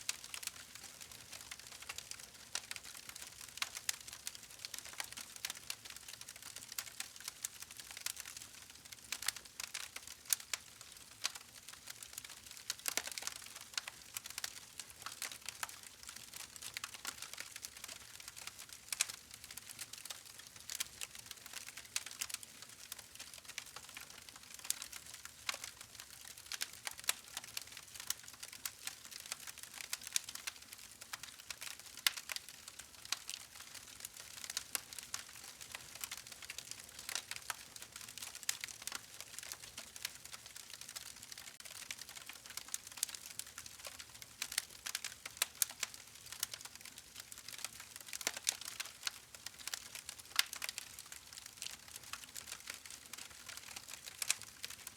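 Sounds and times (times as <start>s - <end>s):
wood fire crackling: 0.1s - 54.9s.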